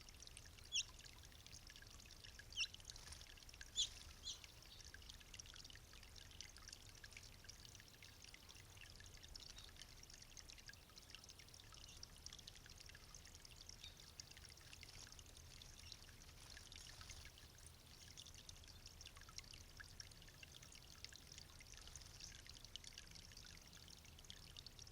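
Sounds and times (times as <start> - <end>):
fountain water trickling: 0.0 - 24.9.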